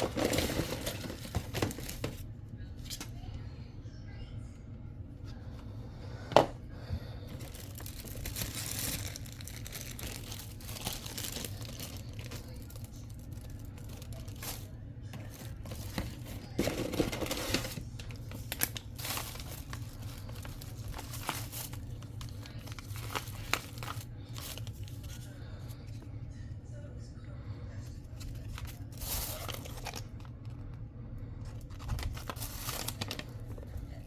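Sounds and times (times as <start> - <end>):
crinkling and rustling handling: 0.0 - 3.6, 5.0 - 26.5, 27.7 - 34.0.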